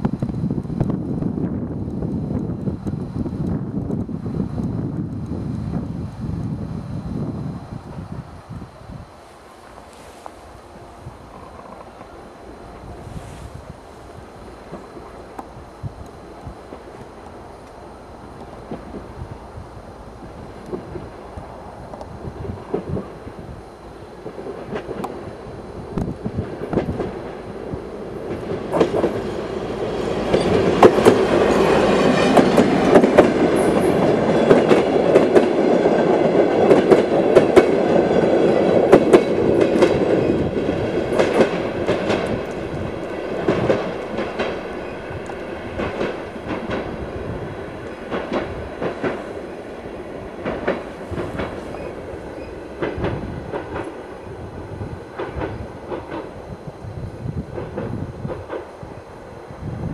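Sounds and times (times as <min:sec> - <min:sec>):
diesel train passing: 0:00.0 - 0:59.9.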